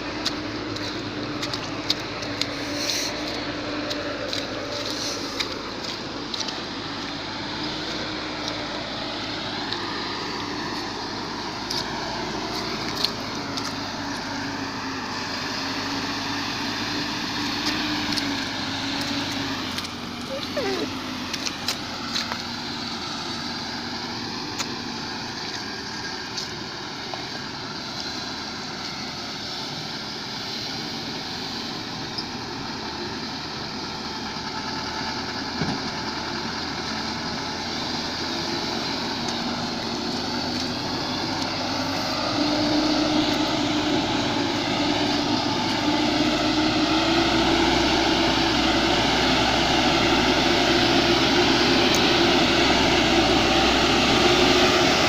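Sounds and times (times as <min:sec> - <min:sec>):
steady engine tone: 0:00.0 - 0:55.0
vehicle engine driving: 0:00.0 - 0:55.0.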